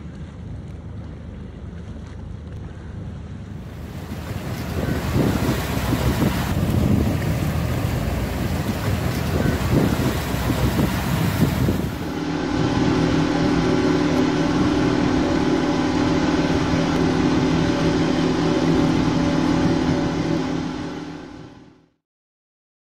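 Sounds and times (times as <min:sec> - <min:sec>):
boat engine hum: 0:00.0 - 0:22.0
wind and water rushing: 0:03.3 - 0:21.8.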